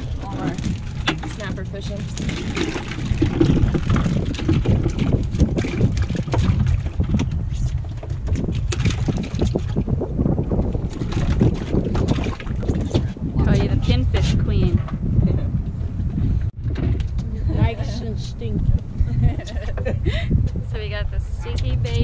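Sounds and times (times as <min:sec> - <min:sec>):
boat engine and hull noise: 0:00.0 - 0:22.0
wind buffeting microphone: 0:00.0 - 0:22.0.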